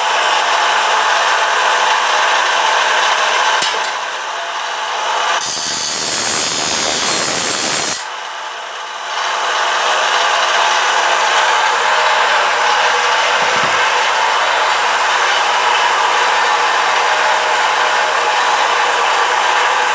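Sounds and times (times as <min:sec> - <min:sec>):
power tool working metal: 0:00.0 - 0:19.9.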